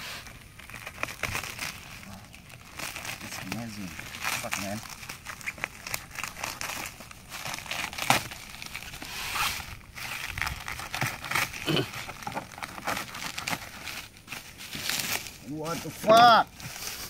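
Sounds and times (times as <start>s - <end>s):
plastic wrap crinkling and tearing: 0.0s - 17.0s.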